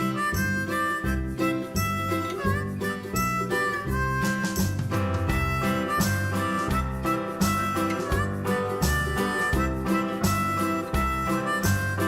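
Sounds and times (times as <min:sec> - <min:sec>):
steady bass beat: 0:00.0 - 0:12.0
upbeat harmonica tune: 0:00.0 - 0:12.0.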